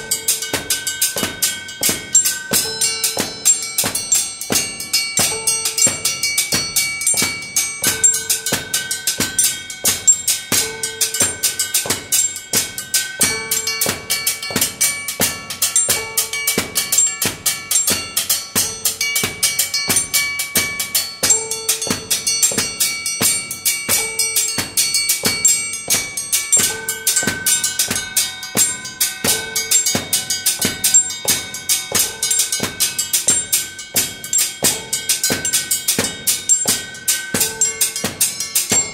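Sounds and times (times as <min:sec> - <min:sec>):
fast drum beat: 0:00.0 - 0:38.9.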